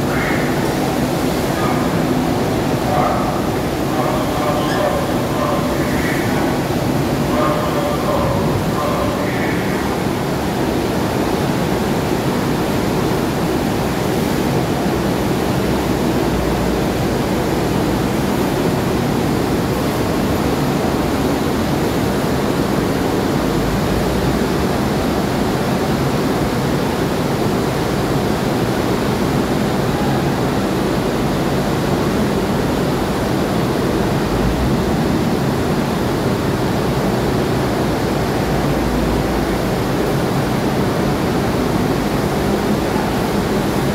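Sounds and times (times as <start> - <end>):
vehicle engine churning through water: 0.0 - 43.9.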